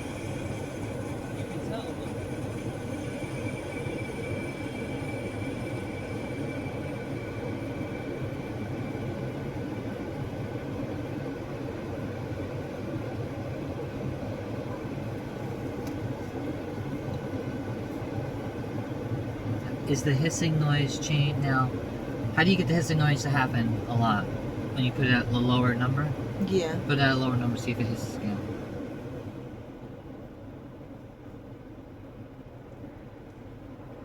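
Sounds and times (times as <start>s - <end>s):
air conditioning hissing: 0.0s - 34.0s
car engine idling: 0.0s - 34.0s.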